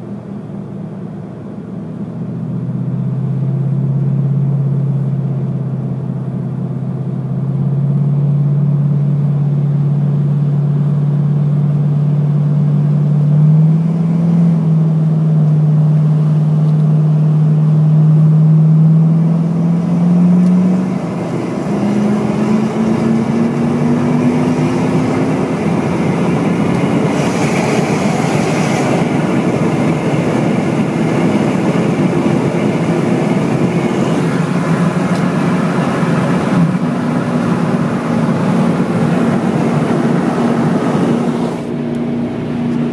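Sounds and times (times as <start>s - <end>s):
rushing of moving vehicle: 0.0s - 42.9s
engine exhaust accelerating: 1.7s - 42.9s.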